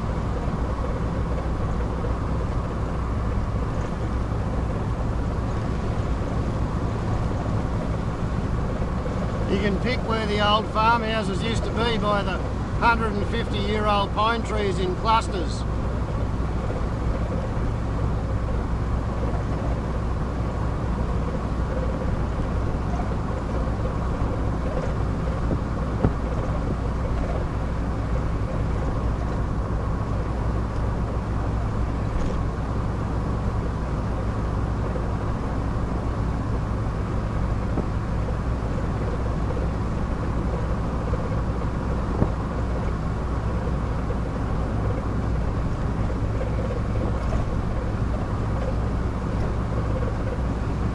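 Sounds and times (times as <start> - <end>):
car engine and road drone: 0.0 - 50.9.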